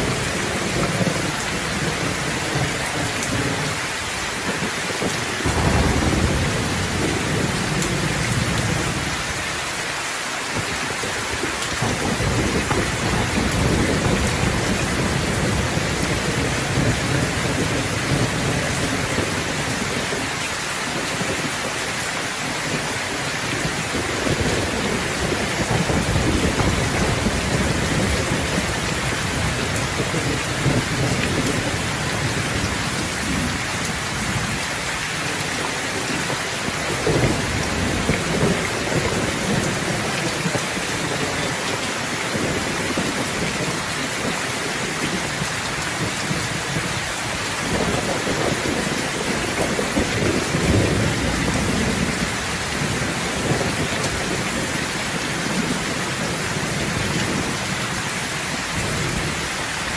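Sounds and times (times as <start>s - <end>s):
thunder rumbling: 0.0s - 10.0s, 10.6s - 21.7s, 22.4s - 41.7s, 42.3s - 58.0s
rain falling: 0.0s - 59.9s.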